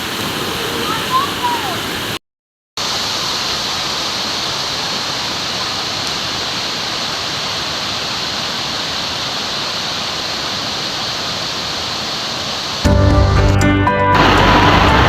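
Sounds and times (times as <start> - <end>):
waterfall rushing: 0.0 - 2.2, 2.8 - 12.9, 14.0 - 15.0.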